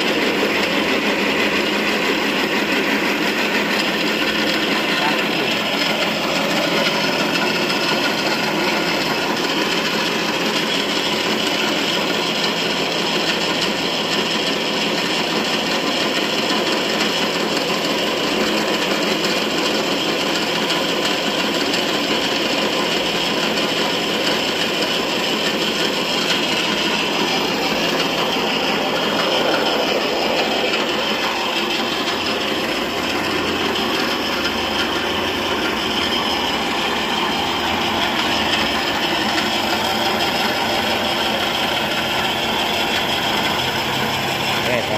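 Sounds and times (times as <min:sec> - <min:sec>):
pellet mill mechanical drone: 0:00.0 - 0:44.9.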